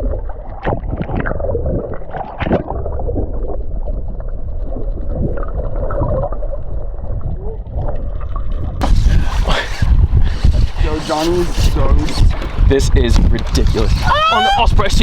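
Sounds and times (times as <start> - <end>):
muffled wind and water rumble: 0.0 - 15.0.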